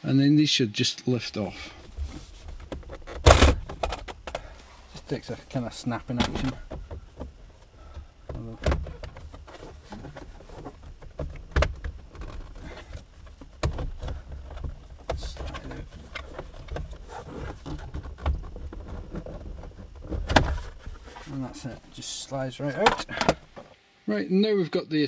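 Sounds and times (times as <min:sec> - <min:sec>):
plastic creaks and knocks: 0:01.8 - 0:23.7.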